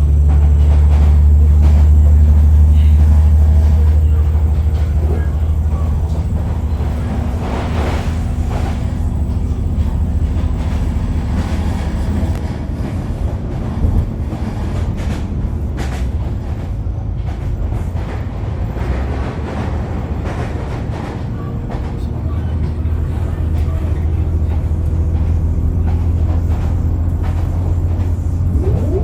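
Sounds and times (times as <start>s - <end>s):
moving vehicle rumble: 0.0s - 29.0s.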